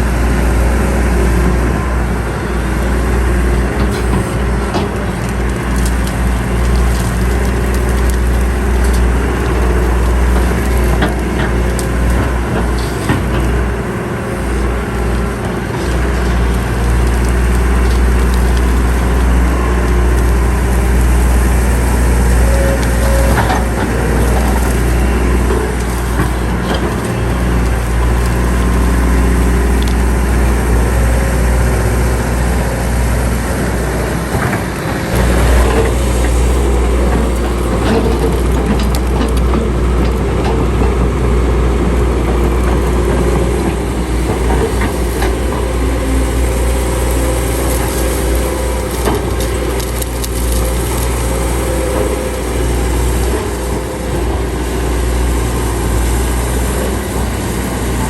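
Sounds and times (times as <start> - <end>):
heavy machinery diesel engine running: 0.0 - 58.0
soil and stone crunching: 0.1 - 58.0.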